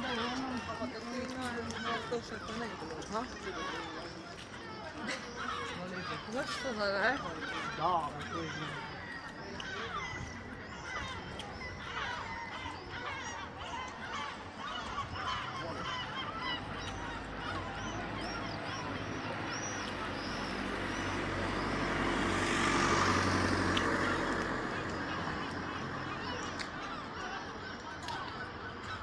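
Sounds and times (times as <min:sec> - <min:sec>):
gulls squawking: 0:00.0 - 0:29.0.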